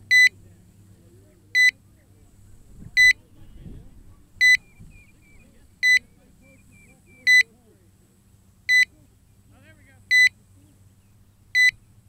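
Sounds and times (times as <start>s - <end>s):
faint low background noise: 0.0s - 12.0s.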